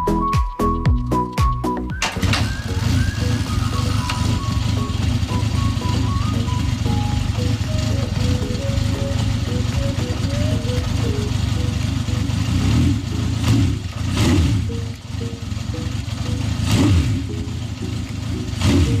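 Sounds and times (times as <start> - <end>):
background music: 0.0 - 13.7, 14.6 - 19.0
motorcycle engine revving: 2.0 - 19.0.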